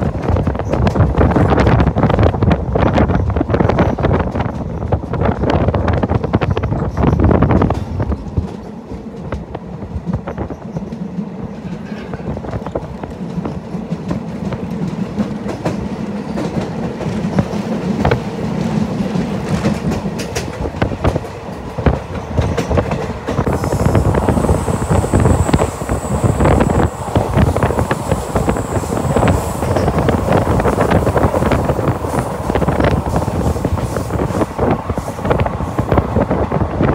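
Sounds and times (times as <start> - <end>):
train rumble: 0.0 - 36.9.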